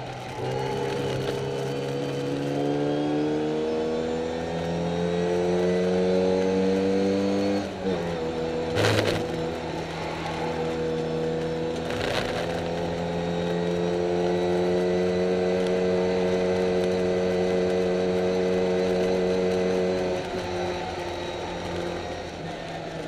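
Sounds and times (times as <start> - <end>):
car engine pulling hard: 0.0 - 23.0.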